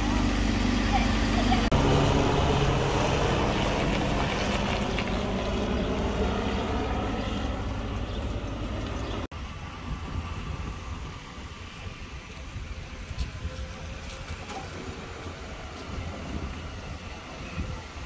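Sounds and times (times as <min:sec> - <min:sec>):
helicopter flying overhead: 0:00.0 - 0:18.0.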